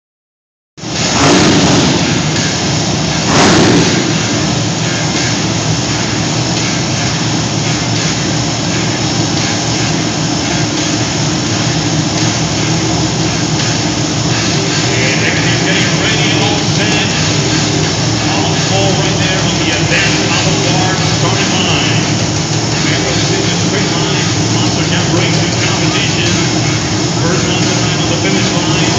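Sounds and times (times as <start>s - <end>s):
truck engine revving: 0.8s - 28.9s.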